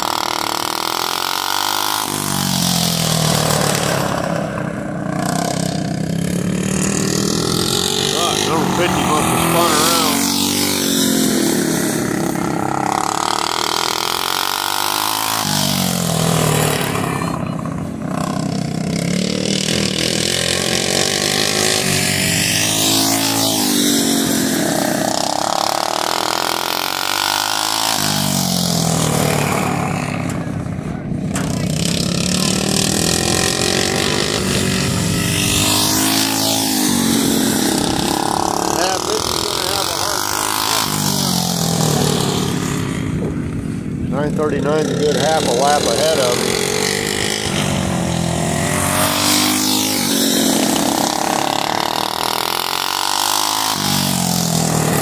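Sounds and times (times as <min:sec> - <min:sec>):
racing lawnmower engines passing: 0:00.0 - 0:55.0.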